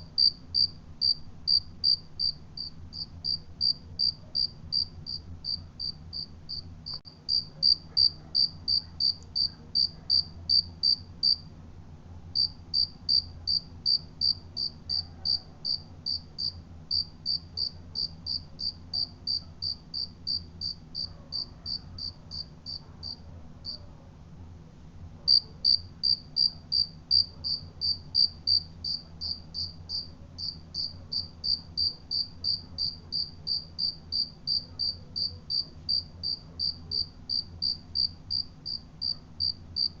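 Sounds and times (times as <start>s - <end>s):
cricket chirping: 0.2s - 11.4s, 12.4s - 23.8s, 25.3s - 40.0s.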